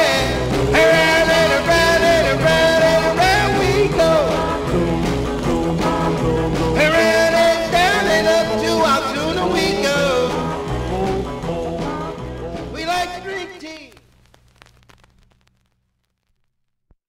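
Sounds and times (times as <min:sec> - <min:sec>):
rock and roll record playing: 0:00.0 - 0:16.2.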